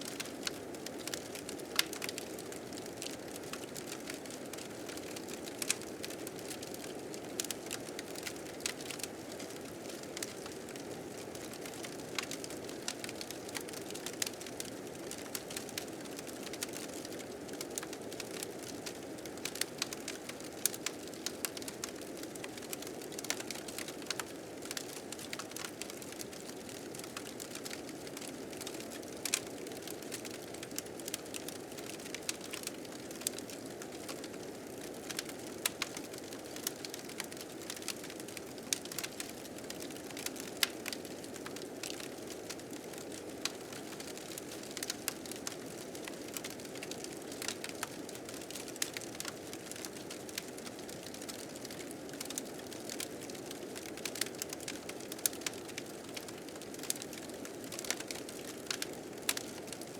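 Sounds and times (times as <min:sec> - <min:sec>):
fire crackling: 0:00.1 - 0:59.8.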